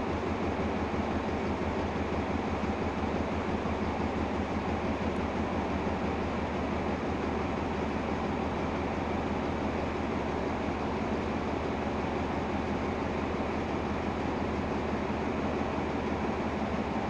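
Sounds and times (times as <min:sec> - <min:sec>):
diesel locomotive idling: 0:00.0 - 0:17.0.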